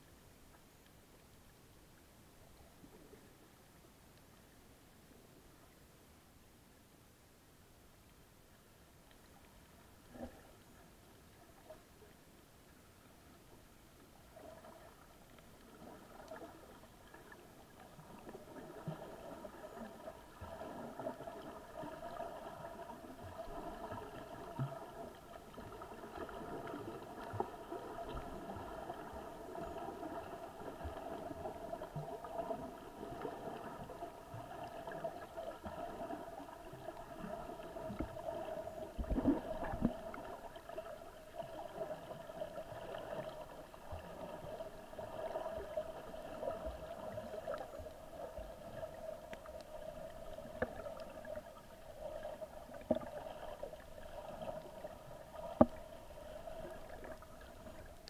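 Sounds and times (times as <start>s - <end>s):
low watery rumble: 0.0s - 58.0s.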